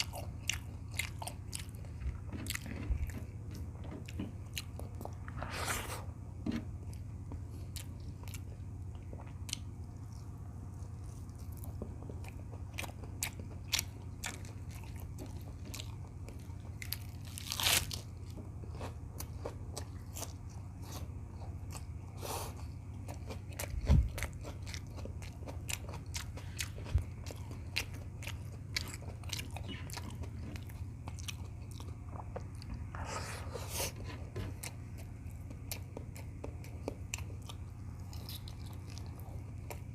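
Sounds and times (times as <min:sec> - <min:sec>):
close chewing and crunching: 0:00.0 - 0:39.9
steady low hum: 0:00.0 - 0:39.9.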